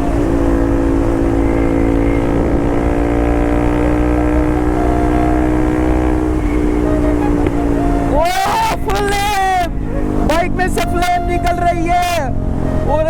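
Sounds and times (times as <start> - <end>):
motorcycle engine at high revs: 0.0 - 10.8
low wind rumble: 0.0 - 13.0.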